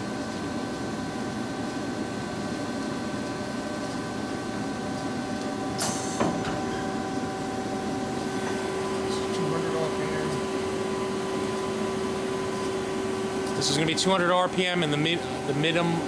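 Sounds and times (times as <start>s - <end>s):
boring mill humming: 0.0s - 16.0s.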